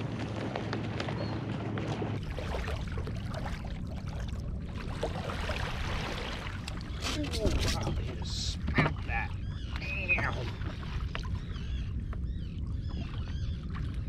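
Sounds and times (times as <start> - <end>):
water lapping against kayak hull: 0.0 - 14.0
wind rumble on microphone: 0.0 - 14.0.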